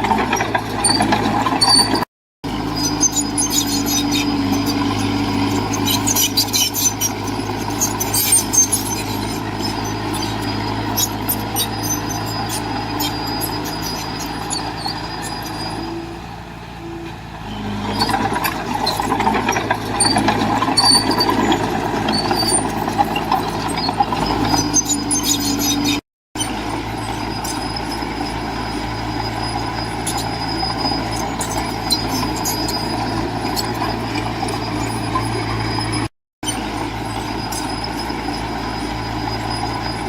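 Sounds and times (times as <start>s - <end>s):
short clicks and squeaks: 0.0s - 16.2s, 16.8s - 40.0s
heavy diesel machinery running: 0.0s - 40.0s.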